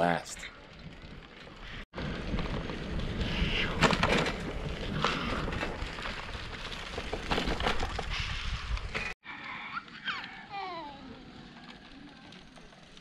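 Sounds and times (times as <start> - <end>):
bicycle rolling on rough surface: 0.0 - 9.2, 9.8 - 13.0.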